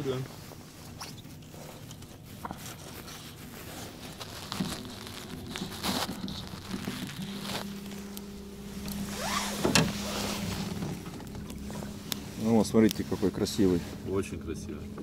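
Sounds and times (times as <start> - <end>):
fabric rustling on microphone: 0.0 - 15.0
low steady hum: 0.0 - 15.0.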